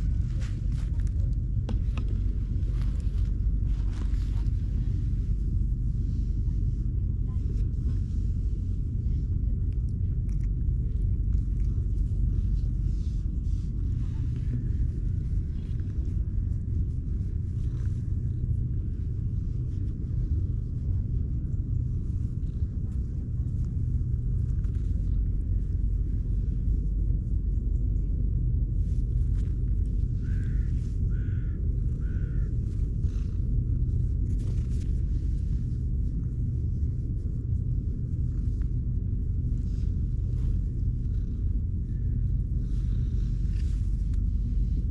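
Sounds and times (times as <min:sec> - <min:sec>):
cat purring: 0:00.0 - 0:44.9
steady low rumble: 0:00.0 - 0:44.9.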